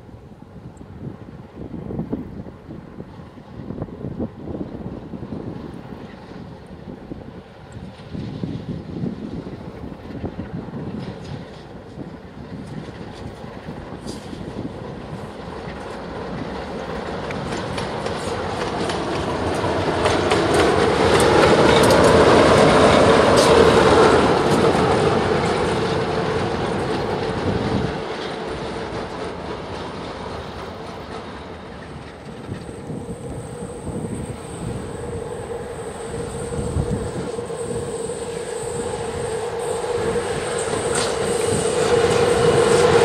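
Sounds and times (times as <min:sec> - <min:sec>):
locomotive hum: 0:05.0 - 0:43.0
wheels clattering on rails: 0:07.6 - 0:43.0.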